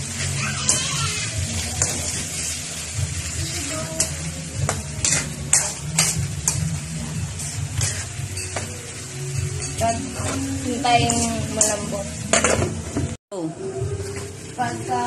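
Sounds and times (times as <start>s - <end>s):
food sizzling in a wok: 0.0s - 15.0s
metal ladle scraping a pan: 0.1s - 12.8s.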